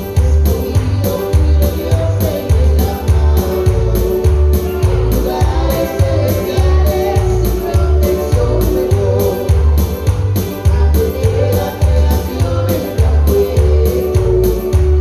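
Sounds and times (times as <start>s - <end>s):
bass-heavy beat: 0.0s - 15.0s
gospel worship music: 0.0s - 15.0s
keyboard: 0.0s - 15.0s
singing: 0.0s - 15.0s.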